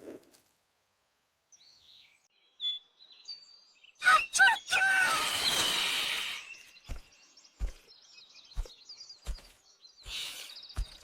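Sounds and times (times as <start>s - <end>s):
faint bird chirps: 1.5s - 11.0s.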